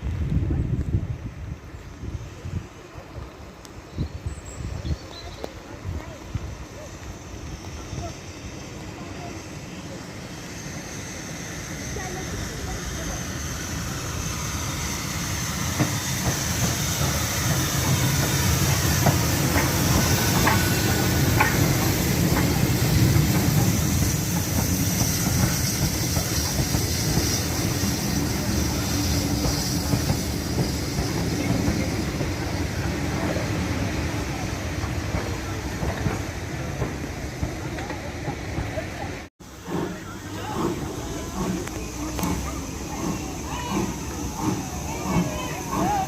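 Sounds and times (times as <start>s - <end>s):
train carriages rumbling: 0.0s - 46.0s.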